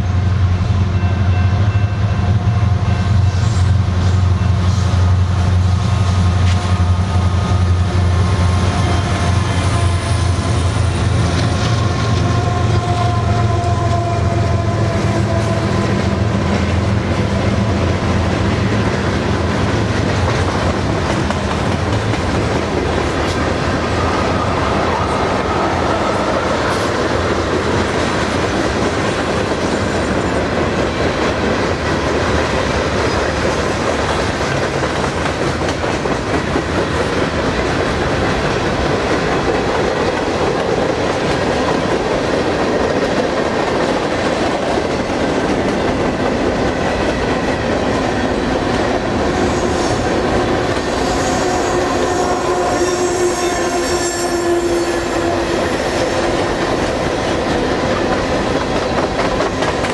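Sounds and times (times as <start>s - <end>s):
train wheels rumbling and clattering: 0.0s - 54.0s, 54.6s - 59.9s
diesel locomotive engines droning: 0.0s - 59.9s.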